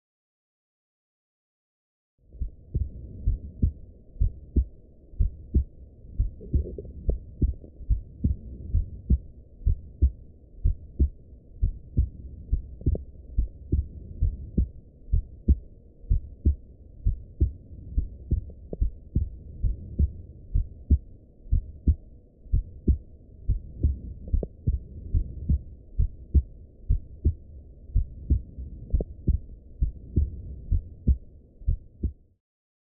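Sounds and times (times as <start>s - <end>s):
heartbeat lub-dub through stethoscope: 2.4s - 32.4s.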